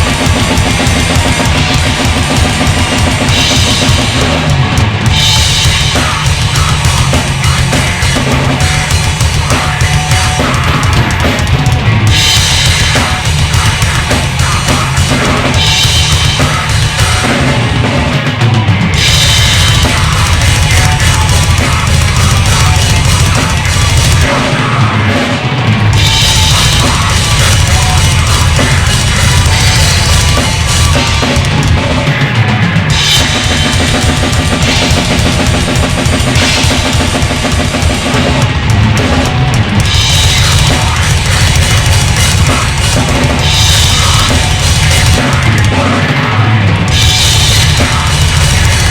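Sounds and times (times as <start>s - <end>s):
heavy rock song: 0.0s - 48.9s
loud drum kit: 0.0s - 48.9s.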